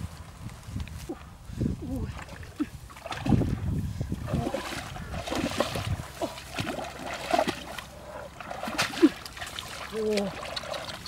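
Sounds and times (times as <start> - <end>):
water splashing and trickling: 1.9 - 11.0.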